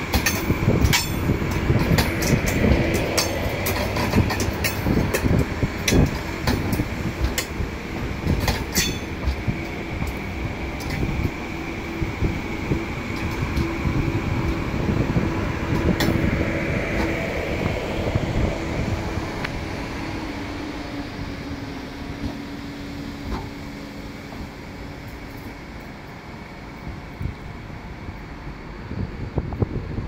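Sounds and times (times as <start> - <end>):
electric train rolling past: 0.0 - 30.0.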